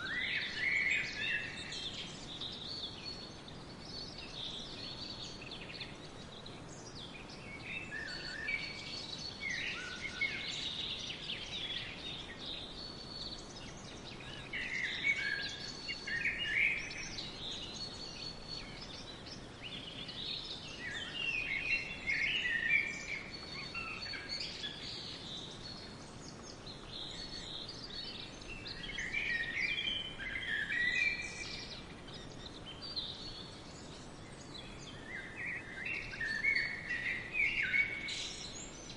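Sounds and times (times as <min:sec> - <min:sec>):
faint steady hiss: 0:00.0 - 0:38.9
songbirds chirping and warbling: 0:00.0 - 0:38.9.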